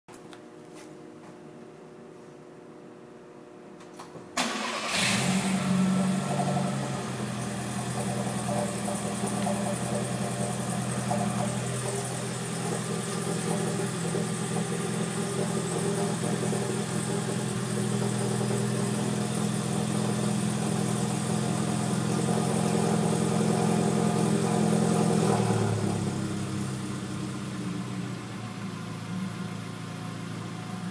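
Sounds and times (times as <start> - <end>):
car engine idling: 4.4 - 30.9.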